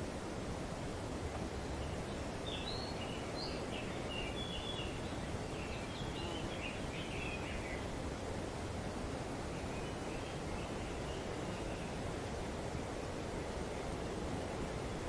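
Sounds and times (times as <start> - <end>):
wind through tree leaves: 0.0 - 15.0.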